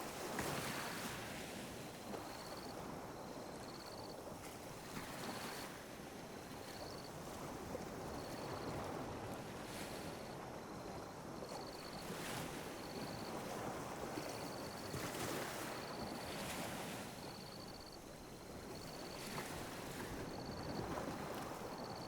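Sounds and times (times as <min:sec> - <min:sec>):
sea waves lapping on beach: 0:00.0 - 0:22.0.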